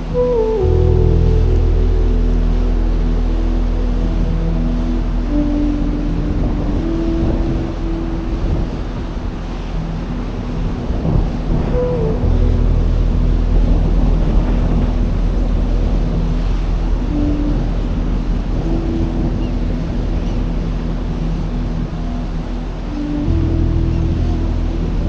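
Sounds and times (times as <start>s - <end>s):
low steady hum: 0.0s - 25.0s
sea surf washing onto beach: 0.0s - 25.0s
wind buffeting microphone: 0.0s - 25.0s.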